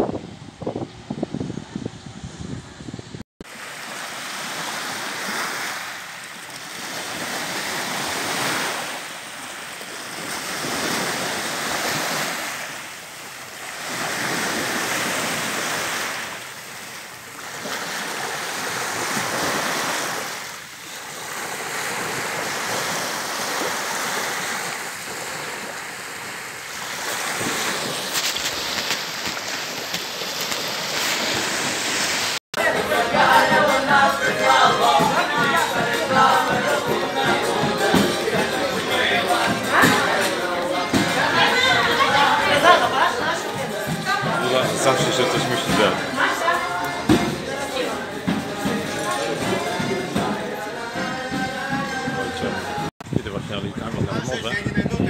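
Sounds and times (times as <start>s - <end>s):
waves washing onto shore: 3.4s - 53.2s.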